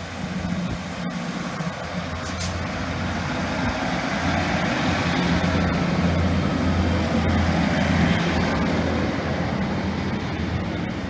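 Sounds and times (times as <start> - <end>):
diesel train engines droning: 0.0 - 11.0.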